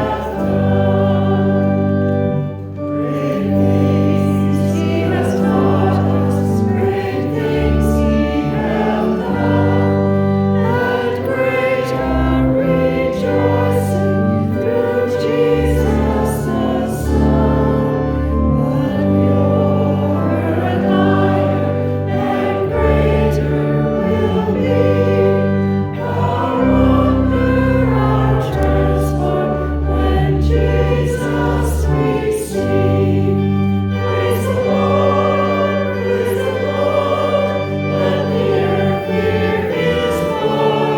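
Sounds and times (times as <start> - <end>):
choir singing a hymn: 0.0 - 40.9
held instrumental chords: 0.0 - 40.9.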